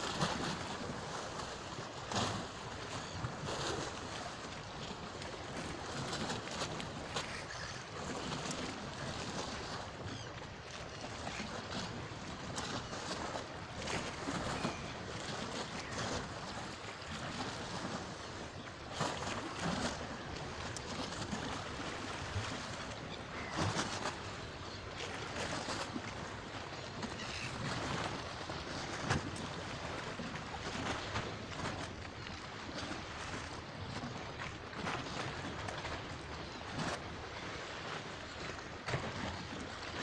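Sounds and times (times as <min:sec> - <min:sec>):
sea water lapping and splashing: 0:00.0 - 0:40.0.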